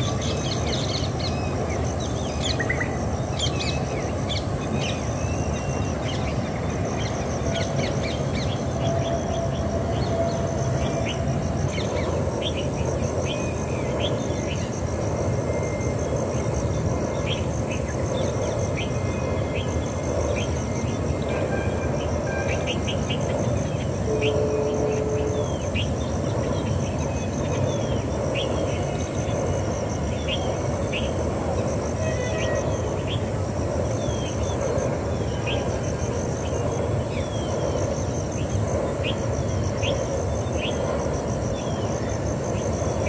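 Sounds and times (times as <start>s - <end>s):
pulsing insect trill: 0.0s - 43.0s.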